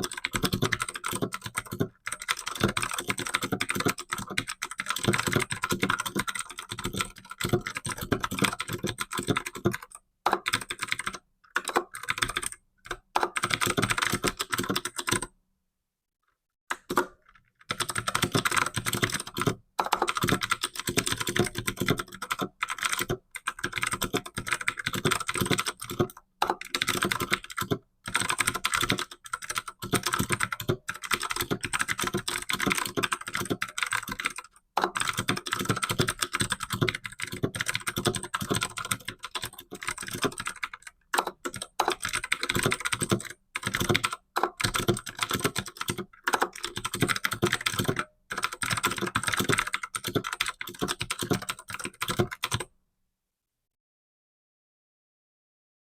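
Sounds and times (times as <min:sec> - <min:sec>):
fast typing on keyboard: 0:00.0 - 0:15.3, 0:16.7 - 0:52.7.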